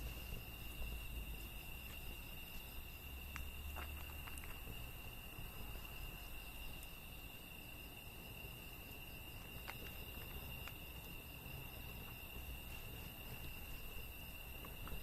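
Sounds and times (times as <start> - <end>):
high steady insect trill: 0.0 - 15.0
wood fire crackling: 0.0 - 15.0.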